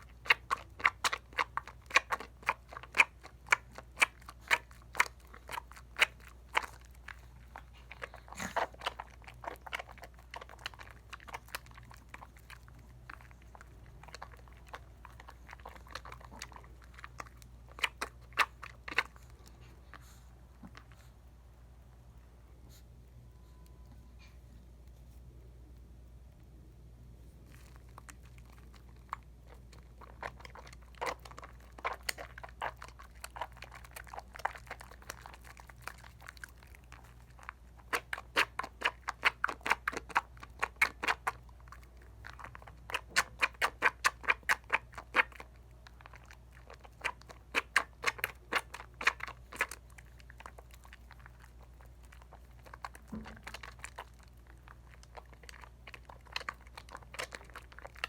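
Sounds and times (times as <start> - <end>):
wet soap lather squelching: 0.0 - 21.0, 27.5 - 58.0
faint low hum: 0.0 - 58.0.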